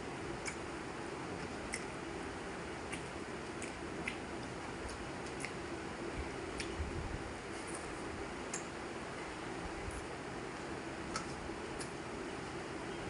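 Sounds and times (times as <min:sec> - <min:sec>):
steady background hiss: 0:00.0 - 0:13.0
soft chewing and squishing: 0:00.1 - 0:13.0.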